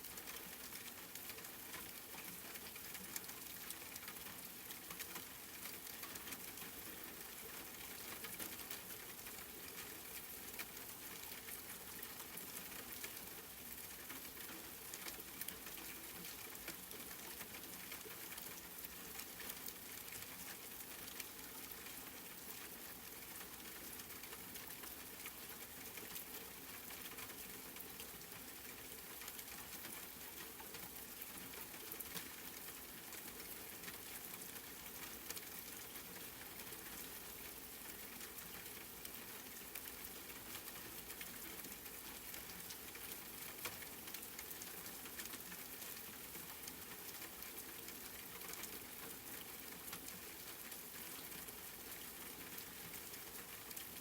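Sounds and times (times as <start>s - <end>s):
steady rain falling: 0.0s - 54.0s
sharp raindrop ticks: 0.1s - 51.8s.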